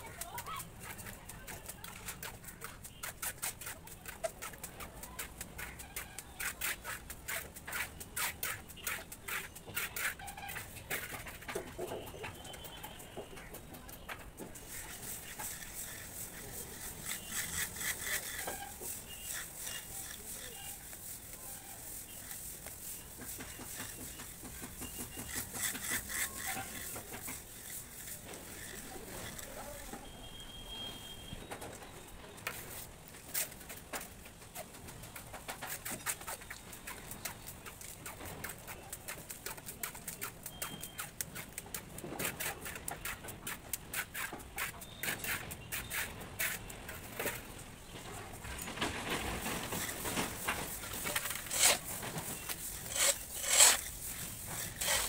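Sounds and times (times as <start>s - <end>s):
float scraping plaster: 0.0s - 30.8s, 32.5s - 55.0s.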